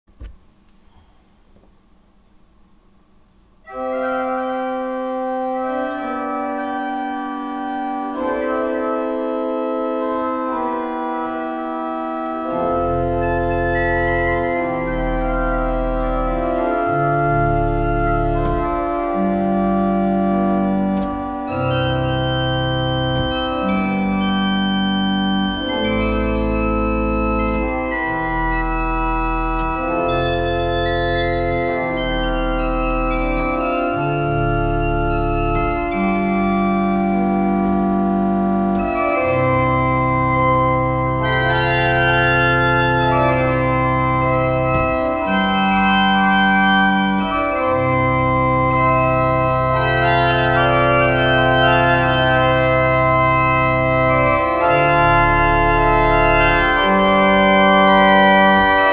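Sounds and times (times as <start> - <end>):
pipe organ playing slow chords: 3.6 - 58.9.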